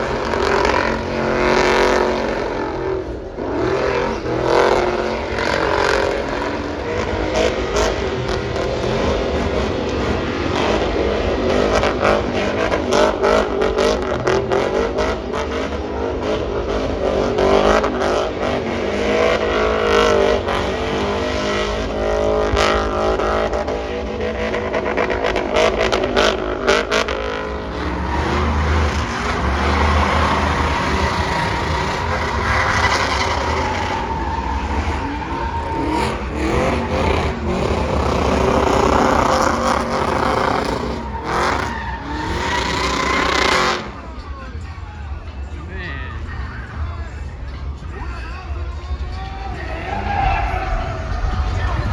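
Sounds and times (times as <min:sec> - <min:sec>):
drag racing engines revving: 0:00.0 - 0:51.9.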